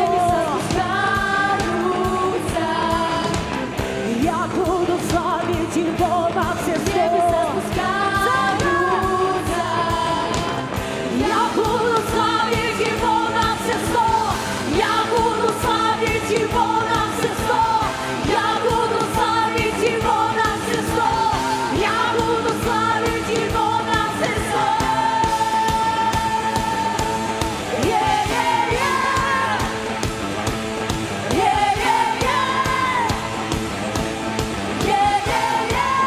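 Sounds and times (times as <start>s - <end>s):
women singing: 0.0s - 30.1s, 31.2s - 33.6s, 34.7s - 36.0s
drums: 0.0s - 36.0s
live band playing upbeat song: 0.0s - 36.0s.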